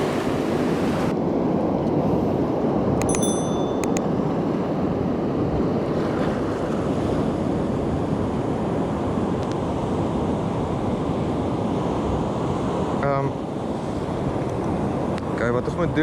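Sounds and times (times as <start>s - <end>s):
ocean surf washing on shore: 0.0s - 16.0s.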